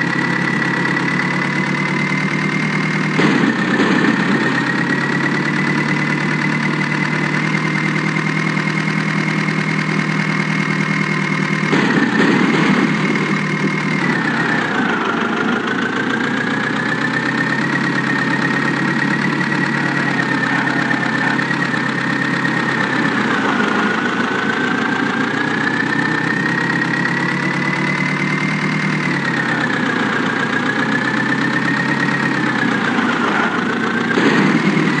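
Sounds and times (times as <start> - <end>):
heavy diesel engine idling: 0.0 - 35.0.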